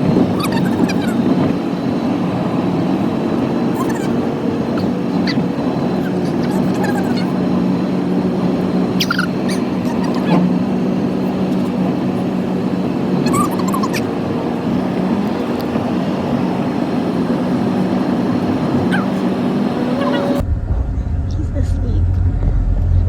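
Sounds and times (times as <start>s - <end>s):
car engine and road drone: 0.0s - 23.0s.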